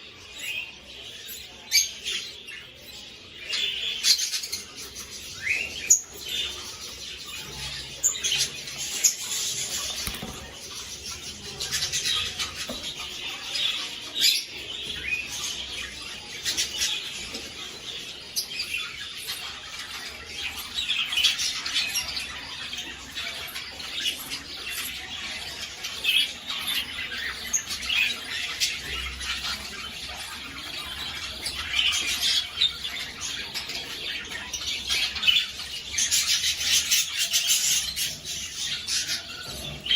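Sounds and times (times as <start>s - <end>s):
budgerigars chirping: 0.1s - 39.9s.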